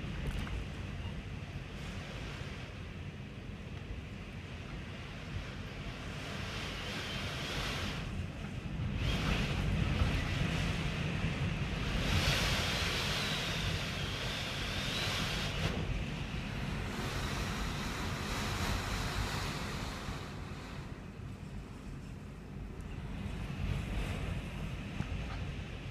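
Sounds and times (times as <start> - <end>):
faint high wind whistle: 0.0 - 25.9
strong wind gusting: 0.0 - 25.9
wind buffeting microphone: 0.0 - 25.9.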